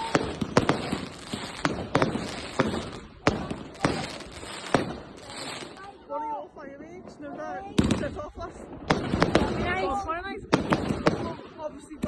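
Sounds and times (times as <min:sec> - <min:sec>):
fireworks bangs with echo: 0:00.0 - 0:06.0, 0:07.0 - 0:12.0.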